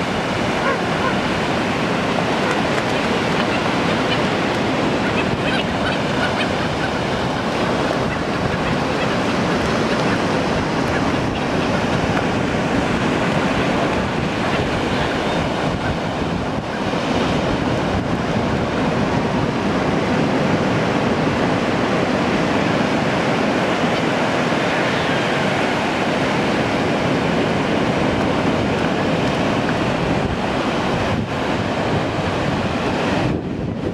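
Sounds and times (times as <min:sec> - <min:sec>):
surf washing onto beach: 0:00.0 - 0:33.9
wind buffeting microphone: 0:00.0 - 0:33.9.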